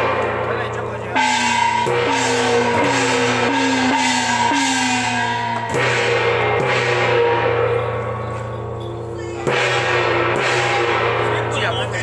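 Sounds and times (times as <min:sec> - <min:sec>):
cymbals crashing: 0:00.0 - 0:12.0
gongs ringing: 0:00.0 - 0:12.0.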